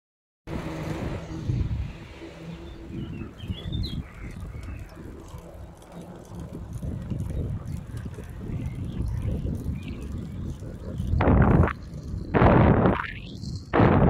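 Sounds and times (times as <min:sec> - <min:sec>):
wind rumbling on microphone: 0:00.5 - 0:14.0.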